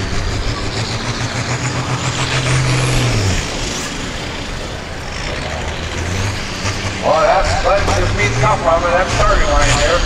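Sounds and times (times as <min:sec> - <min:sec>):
tractor diesel engine revving: 0:00.0 - 0:10.0.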